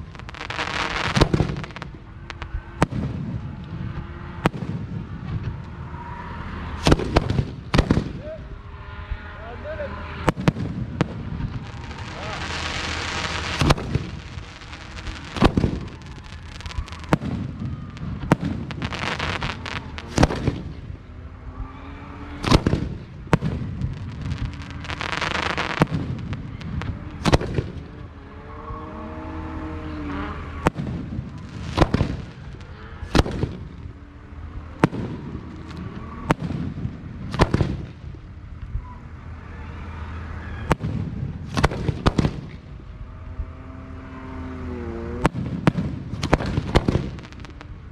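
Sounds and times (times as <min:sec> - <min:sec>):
fireworks bangs: 0:00.0 - 0:38.8, 0:40.2 - 0:43.1, 0:44.4 - 0:47.9
fireworks crackling and hissing: 0:00.0 - 0:39.4, 0:40.2 - 0:43.1, 0:44.5 - 0:47.9.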